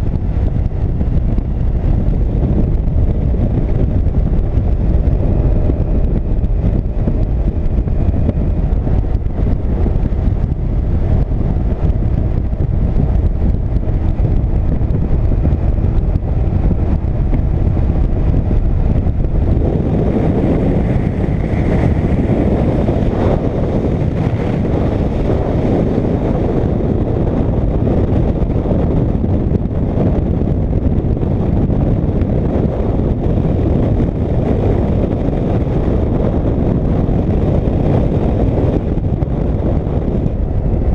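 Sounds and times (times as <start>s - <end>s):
motorcycle engine: 0.0s - 40.9s
wind rushing over microphone: 0.0s - 40.9s.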